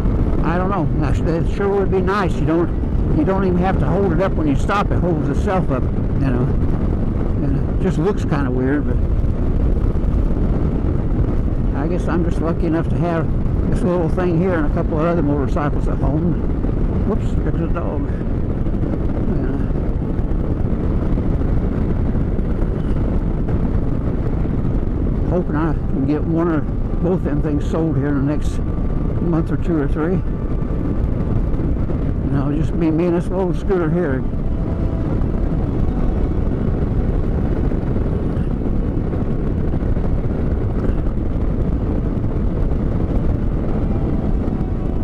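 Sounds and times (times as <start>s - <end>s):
scooter engine and road noise: 0.0s - 45.0s
wind buffeting microphone: 0.0s - 45.0s.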